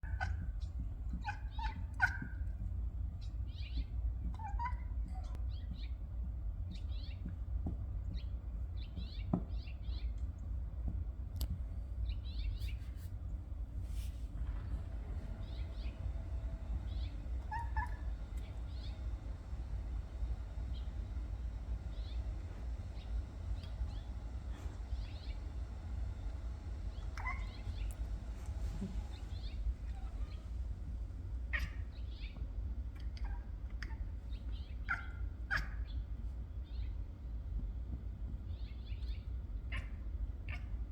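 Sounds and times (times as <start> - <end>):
small birds chirping: 0.0 - 13.4, 14.4 - 40.9
steady low rumble: 0.0 - 40.9.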